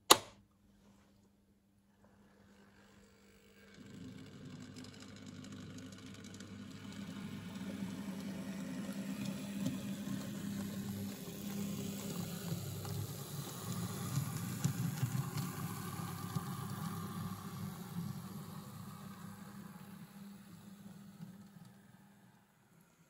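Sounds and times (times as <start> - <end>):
model train motor humming: 2.6 - 23.0
wheels clicking on track: 3.5 - 22.3.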